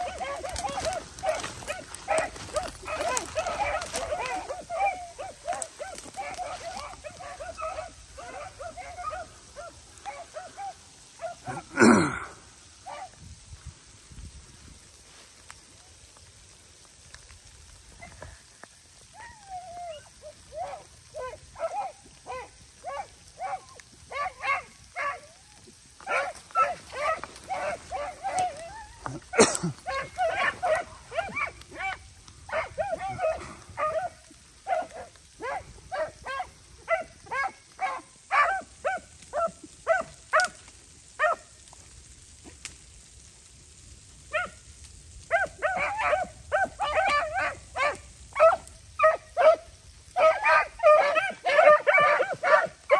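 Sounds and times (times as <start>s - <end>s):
dogs barking and yipping: 0.0s - 13.2s, 17.8s - 42.7s, 44.2s - 52.9s.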